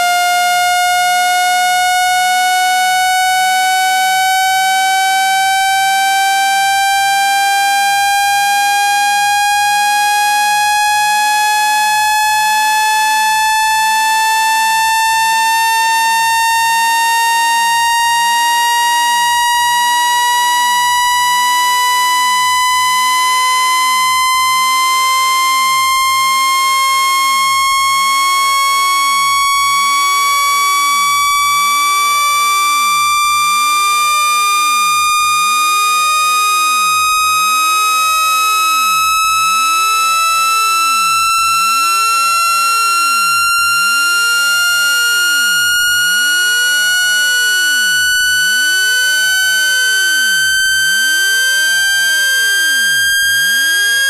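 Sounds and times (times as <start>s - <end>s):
rising electronic test tone: 0.0s - 54.0s.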